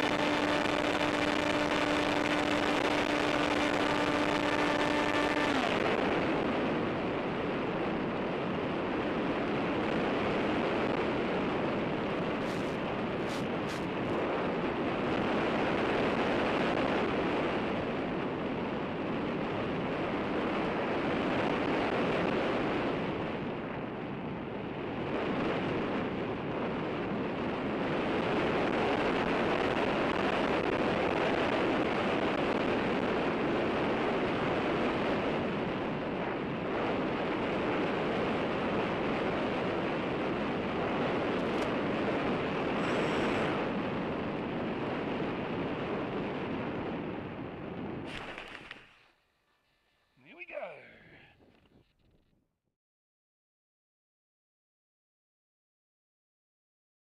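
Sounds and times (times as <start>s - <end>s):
steady rushing noise: 0.0s - 51.3s.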